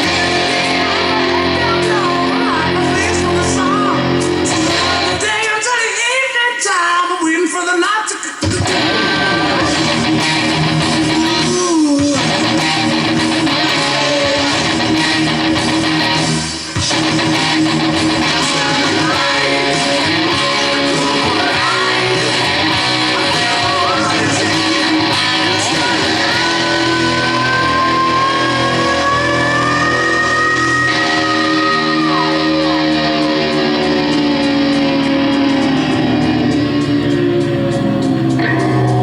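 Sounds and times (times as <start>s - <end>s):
electric guitar: 0.0s - 39.0s
loud live music: 0.0s - 39.0s.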